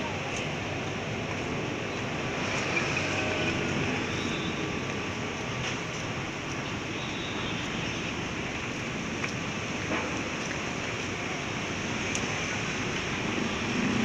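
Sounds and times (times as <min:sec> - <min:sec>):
city road traffic: 0:00.0 - 0:14.0.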